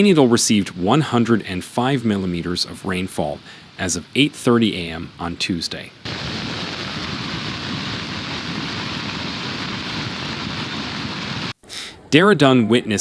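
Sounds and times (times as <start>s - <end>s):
water rushing: 0.0s - 11.6s.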